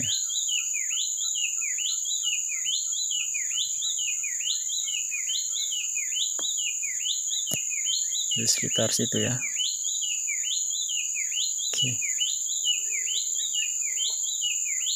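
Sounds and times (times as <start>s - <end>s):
bird singing whistled notes: 0.0s - 14.9s
high insect drone: 0.0s - 14.9s.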